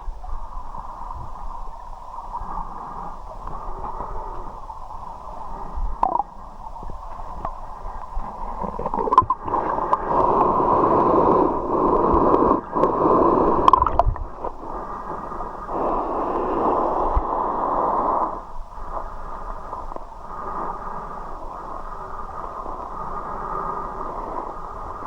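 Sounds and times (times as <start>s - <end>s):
muffled river water gurgling: 0.0s - 25.0s.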